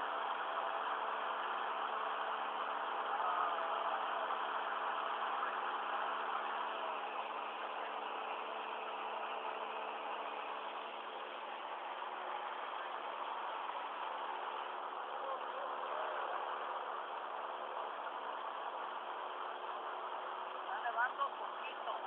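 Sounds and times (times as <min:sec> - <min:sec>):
light aircraft engine humming: 0:00.0 - 0:22.0.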